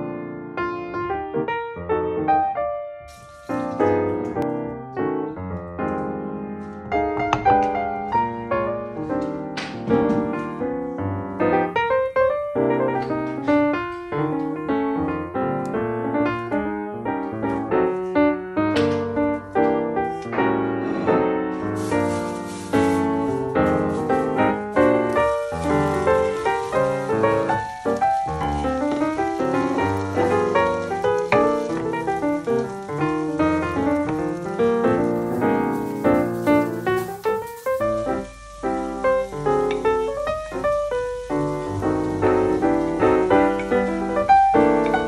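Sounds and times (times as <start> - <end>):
background piano music: 0.0 - 45.0.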